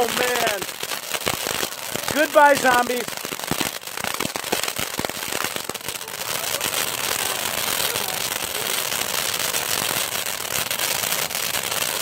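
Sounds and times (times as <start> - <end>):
firework crackling pops: 0.0 - 12.0.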